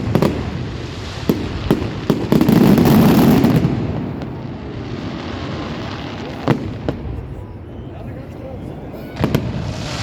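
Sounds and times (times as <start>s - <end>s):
fireworks bangs and crackling: 0.0s - 10.0s
fireworks rumble: 0.0s - 10.0s.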